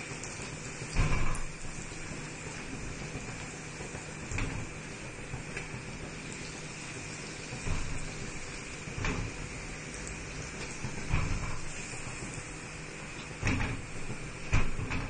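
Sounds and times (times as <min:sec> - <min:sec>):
frying in hot oil: 0:00.0 - 0:15.0.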